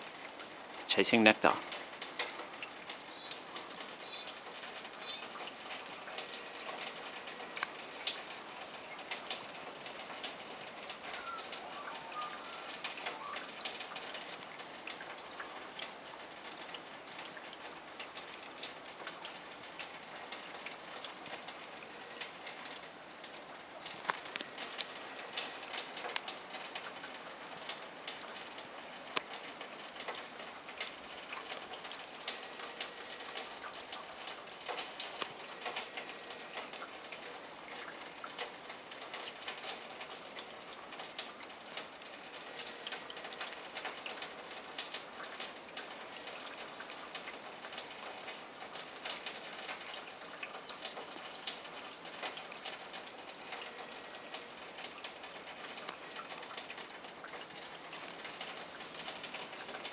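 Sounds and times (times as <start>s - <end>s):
meltwater drips on leaves: 0.0s - 59.9s.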